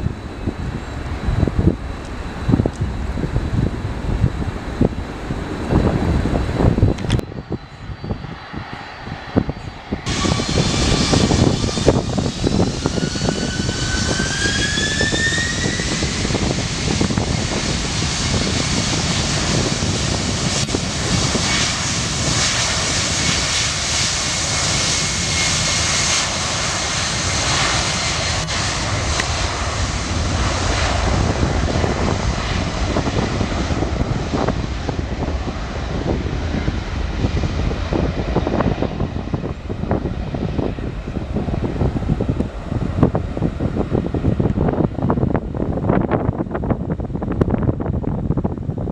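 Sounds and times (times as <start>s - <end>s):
jet engine whine: 0.0s - 48.9s
jet engines roaring: 0.0s - 48.9s.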